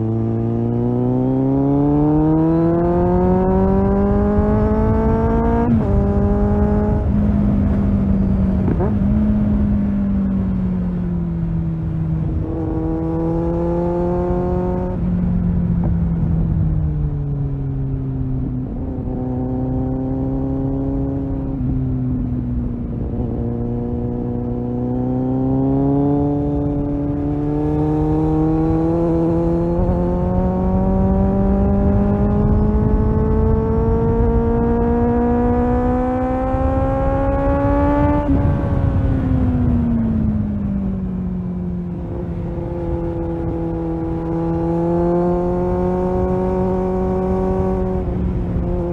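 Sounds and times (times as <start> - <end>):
motorcycle engine accelerating: 0.0 - 48.9
wind and road noise: 0.0 - 48.9.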